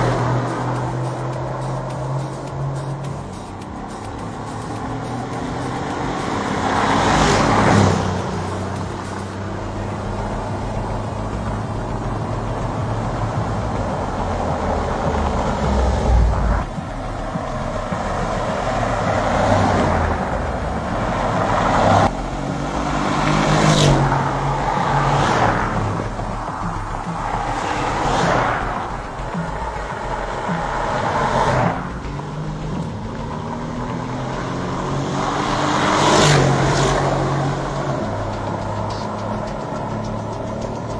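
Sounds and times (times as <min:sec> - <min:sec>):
cars driving by: 0:00.0 - 0:40.9.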